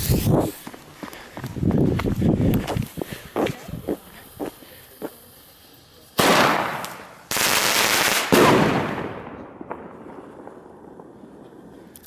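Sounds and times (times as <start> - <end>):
fireworks bursting: 0.0 - 1.0, 2.7 - 12.0.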